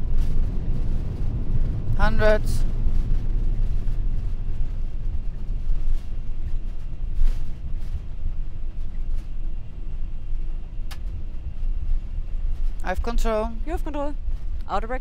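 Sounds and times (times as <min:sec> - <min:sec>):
light rattles: 0:00.0 - 0:14.7
jet landing rumble: 0:00.0 - 0:15.0.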